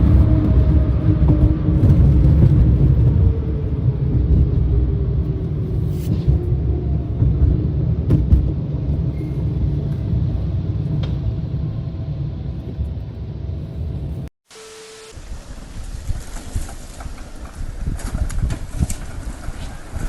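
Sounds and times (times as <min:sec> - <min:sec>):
vehicle rumble: 0:00.0 - 0:14.3, 0:15.2 - 0:20.0.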